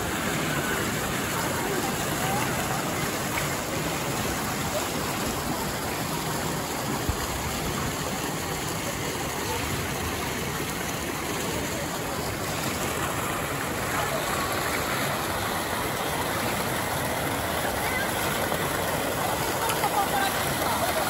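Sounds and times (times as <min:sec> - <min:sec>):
water jet splashing into pool: 0:00.0 - 0:21.0.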